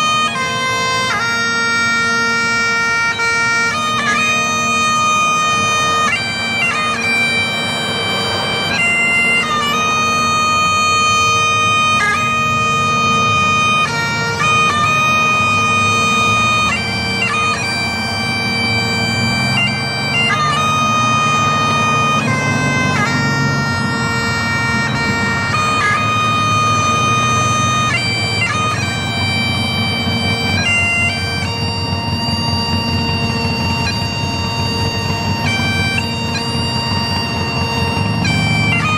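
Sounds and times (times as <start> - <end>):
bagpipe playing slow tune: 0.0 - 38.9.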